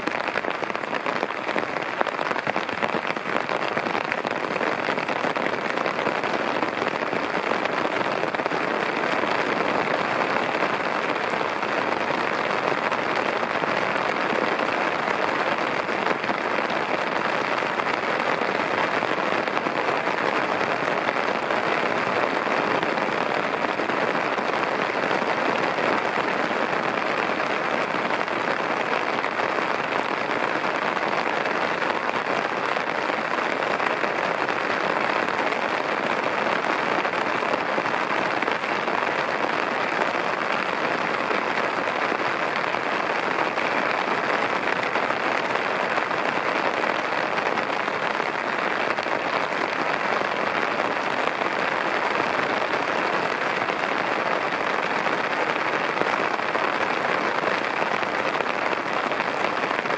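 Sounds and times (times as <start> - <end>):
torrential rain: 0.0 - 59.9.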